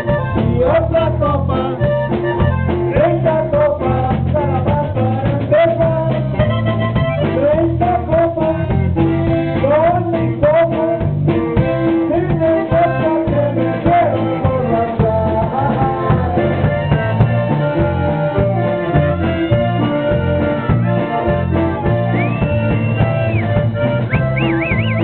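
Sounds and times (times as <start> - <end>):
button accordion: 0.0 - 25.0
live band playing: 0.0 - 25.0.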